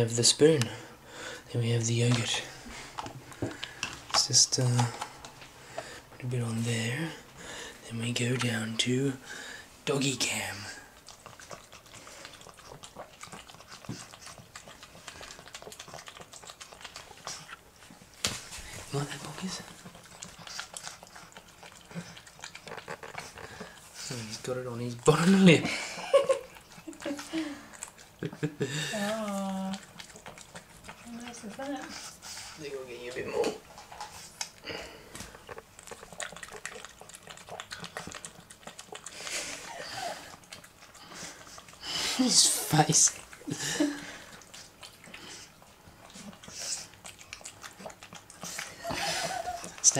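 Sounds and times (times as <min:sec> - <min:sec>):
dog licking a metal spoon: 0:08.0 - 0:08.9, 0:10.0 - 0:34.7, 0:35.4 - 0:49.9.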